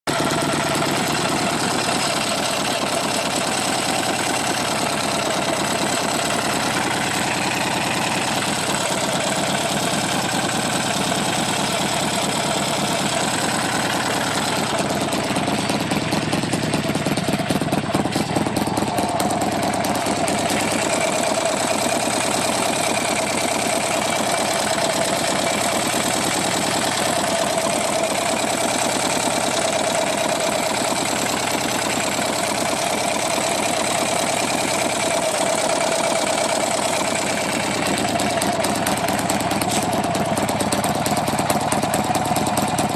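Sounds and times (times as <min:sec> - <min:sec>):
motorcycle engine idling: 0:00.0 - 0:42.9
rapid engine ticking: 0:00.0 - 0:42.9.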